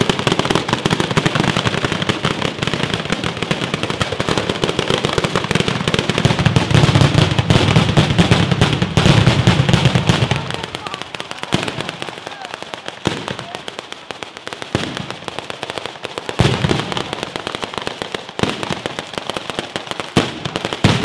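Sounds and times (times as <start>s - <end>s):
firecrackers banging rapidly: 0.0s - 21.0s.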